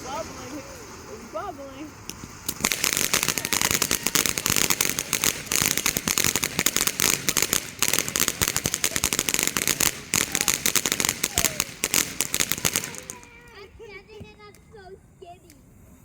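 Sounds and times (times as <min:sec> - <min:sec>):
firework crackling: 0:00.0 - 0:16.0.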